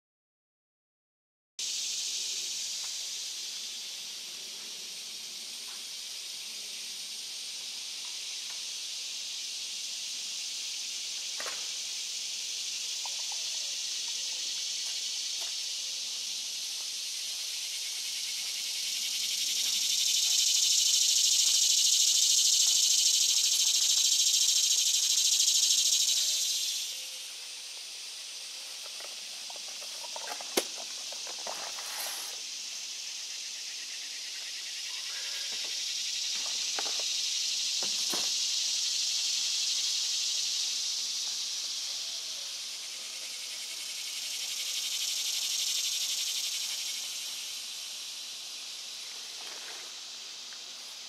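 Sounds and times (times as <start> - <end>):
cicadas droning: 1.6 - 51.0.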